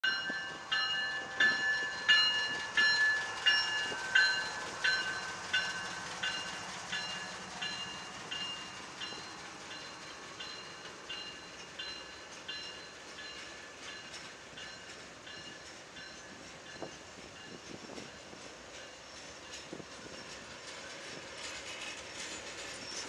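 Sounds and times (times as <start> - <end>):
railroad bell ringing: 0.0 - 23.0.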